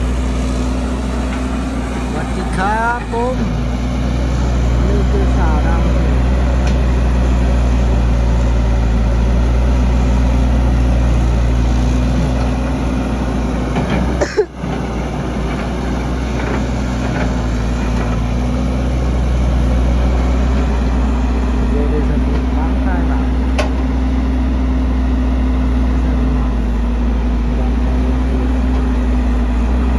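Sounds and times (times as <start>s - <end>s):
heavy machine engine running: 0.0s - 29.9s.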